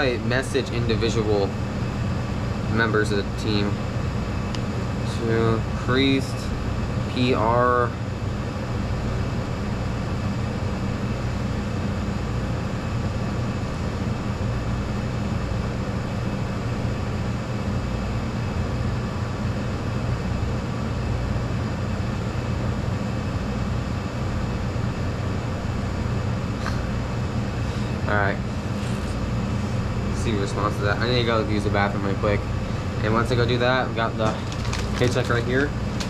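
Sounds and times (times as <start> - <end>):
kitchen machinery hum and fan whir: 0.0 - 36.0.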